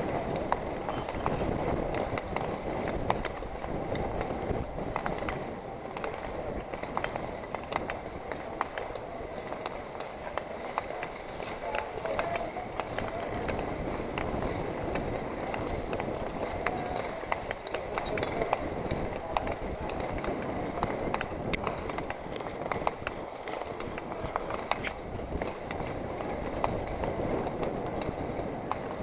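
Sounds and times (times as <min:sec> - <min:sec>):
skate blades clicking and scraping on ice: 0:00.0 - 0:29.0
wind rushing on microphone: 0:00.0 - 0:29.0.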